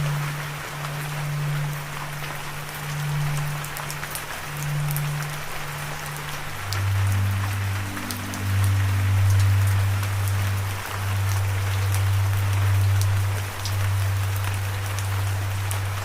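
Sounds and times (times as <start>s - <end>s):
low music drone: 0.0s - 16.0s
rain falling: 0.0s - 16.0s
water drips: 0.0s - 16.0s.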